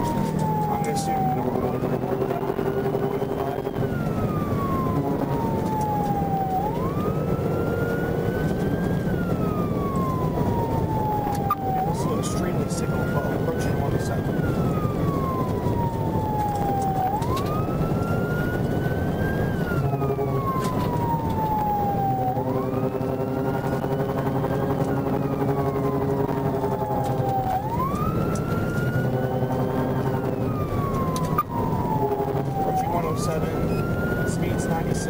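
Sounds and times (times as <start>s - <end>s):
car engine and road noise: 0.0s - 35.0s
police siren wailing: 0.0s - 35.0s.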